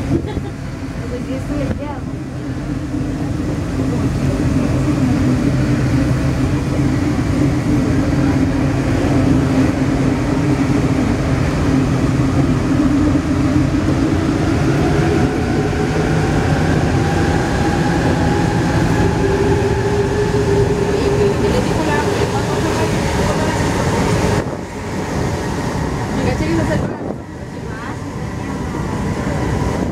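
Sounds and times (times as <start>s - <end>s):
rumble of train wheels on rail: 0.0s - 29.9s
train traction drive whine: 0.0s - 29.9s.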